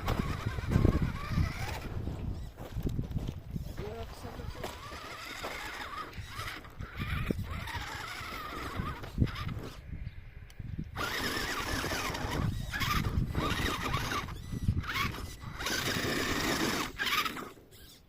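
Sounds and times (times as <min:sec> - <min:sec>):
toy car electric motor whining: 0:00.0 - 0:09.9, 0:10.8 - 0:18.0.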